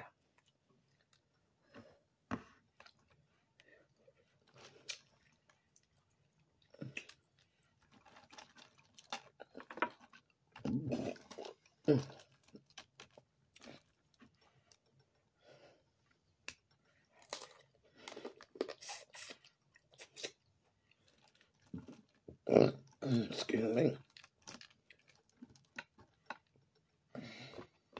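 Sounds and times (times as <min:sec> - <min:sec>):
chewing: 0:00.1 - 0:27.9.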